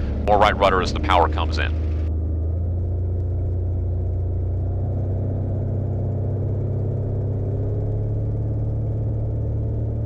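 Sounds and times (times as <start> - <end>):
aircraft engine and propeller droning: 0.0 - 10.0.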